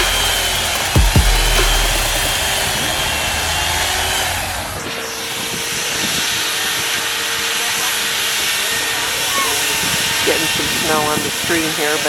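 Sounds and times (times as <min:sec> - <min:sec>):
power tool cutting ice: 0:01.6 - 0:11.5.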